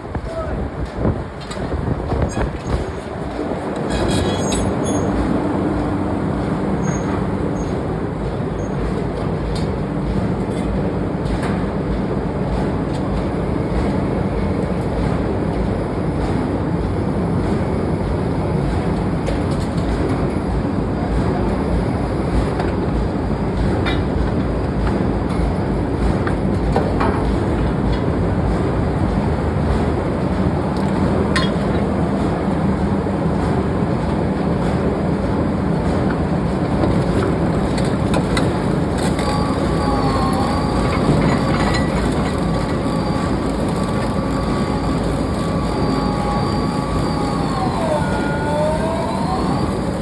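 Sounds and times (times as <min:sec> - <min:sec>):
heavy machinery rumbling: 0:00.0 - 0:50.0.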